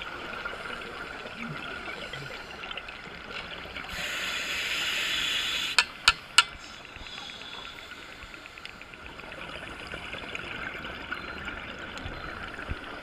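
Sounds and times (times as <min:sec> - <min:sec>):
steady underwater hiss: 0:00.0 - 0:10.7.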